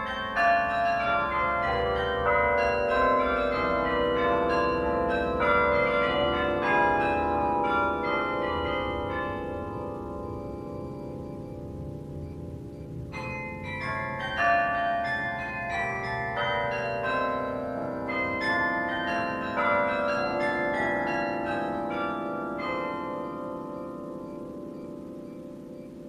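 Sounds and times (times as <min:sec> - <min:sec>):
carillon bells melody: 0:00.0 - 0:26.0.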